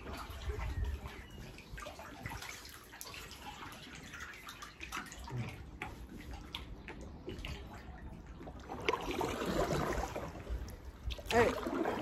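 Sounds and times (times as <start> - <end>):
paddle strokes splashing: 0.0 - 12.0
water trickling and dripping: 0.0 - 12.0.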